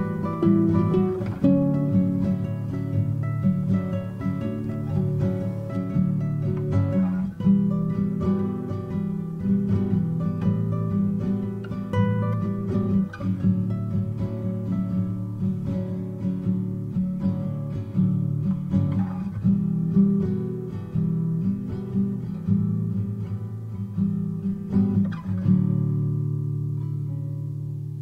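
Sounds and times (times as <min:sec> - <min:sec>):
plucked acoustic guitar melody: 0:00.0 - 0:28.0.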